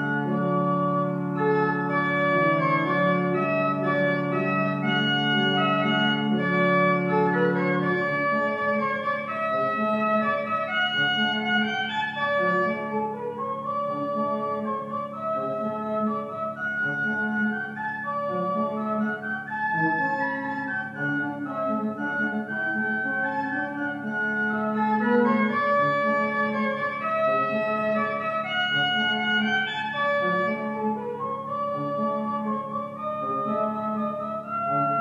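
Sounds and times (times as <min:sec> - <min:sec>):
church organ playing: 0:00.0 - 0:35.0.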